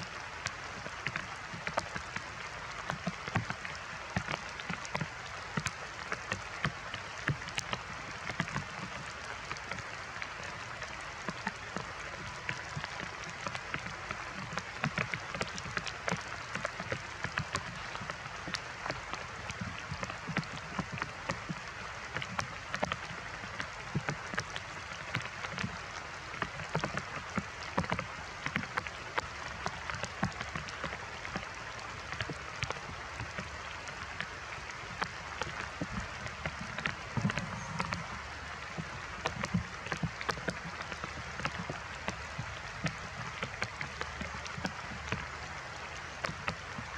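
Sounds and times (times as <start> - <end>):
heavy rain falling: 0.0 - 46.9
raindrops ticking on surfaces: 0.0 - 46.9.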